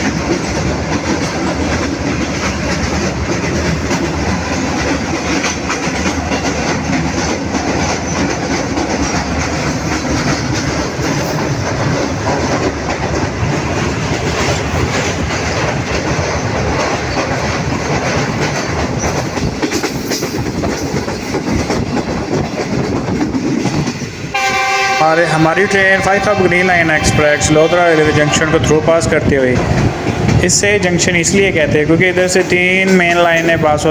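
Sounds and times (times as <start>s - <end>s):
train rumble: 0.0s - 33.9s
train wheels clickety-clack: 0.0s - 33.9s.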